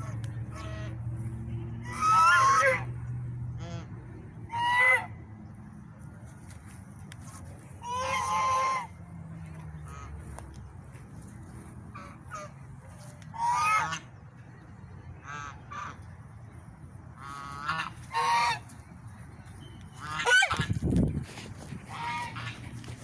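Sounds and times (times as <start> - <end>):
swans honking: 0.0 - 5.6, 6.3 - 14.2, 17.2 - 23.0.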